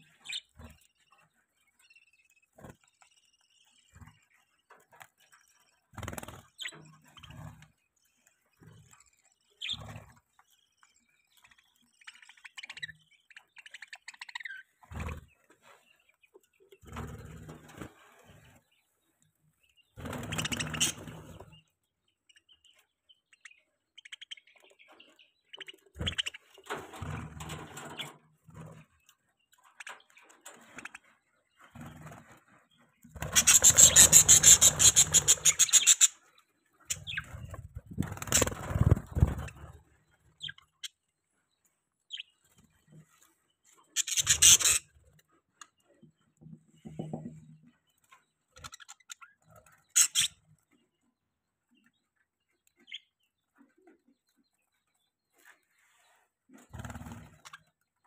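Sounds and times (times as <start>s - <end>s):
budgerigars chirping and chattering: 0.0s - 19.0s, 19.6s - 51.1s, 51.7s - 58.0s.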